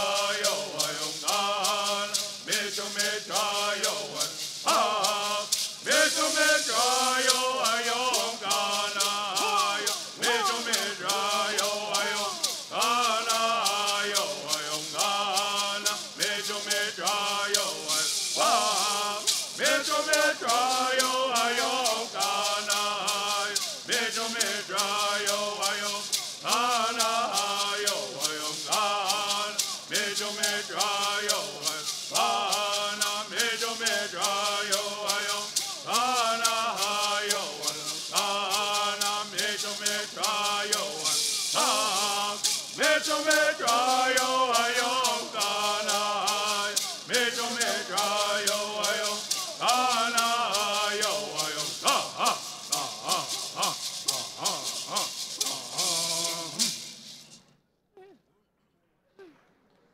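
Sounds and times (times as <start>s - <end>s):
men chanting together: 0.0s - 56.9s
gourd rattles shaking: 0.0s - 57.4s.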